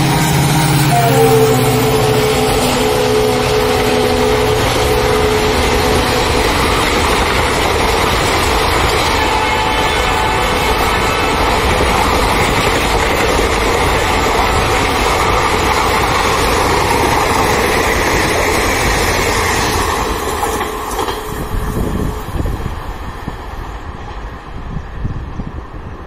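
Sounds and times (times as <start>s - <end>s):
train wheels on rail: 0.0s - 26.0s.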